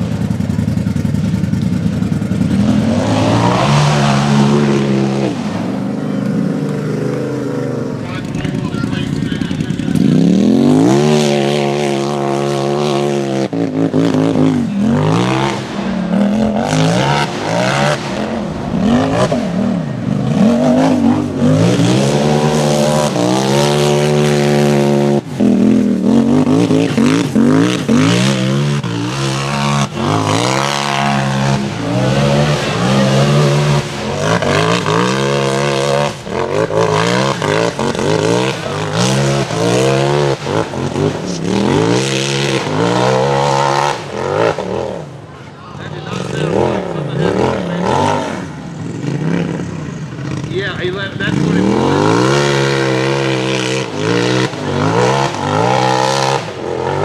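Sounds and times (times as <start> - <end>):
engine revving hard: 2.3 - 45.2, 45.9 - 57.0.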